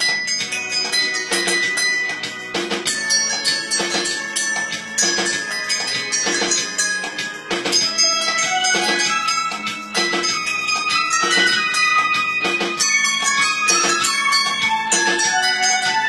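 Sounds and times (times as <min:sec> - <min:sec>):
tuned steel bowls playing melody: 0:00.0 - 0:16.0.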